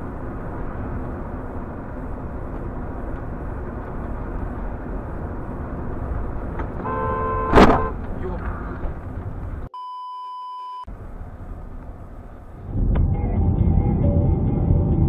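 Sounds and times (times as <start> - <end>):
car driving road noise: 0.0 - 9.7, 10.8 - 15.0.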